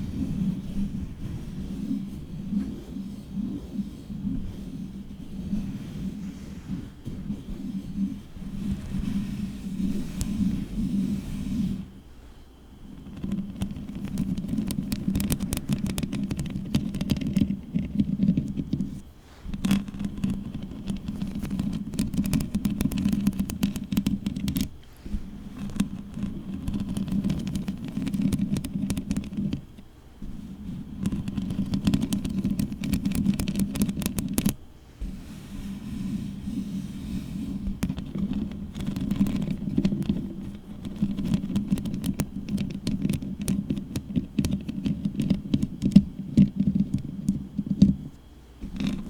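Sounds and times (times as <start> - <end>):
fingernails scratching microphone: 0.0 - 12.0, 12.9 - 49.0.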